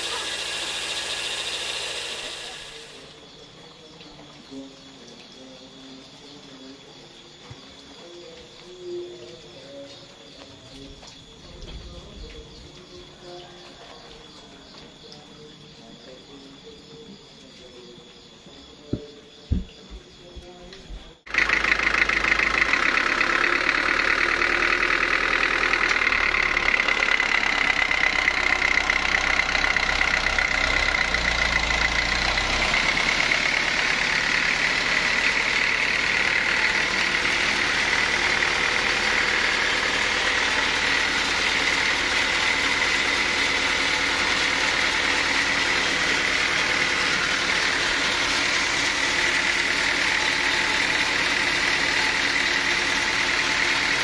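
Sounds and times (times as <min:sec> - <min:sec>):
sawmill machinery whine: 0:00.0 - 0:54.0.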